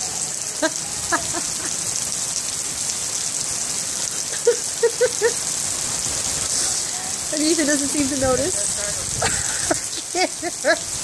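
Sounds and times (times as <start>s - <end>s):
heavy rain on a pool: 0.0s - 11.0s.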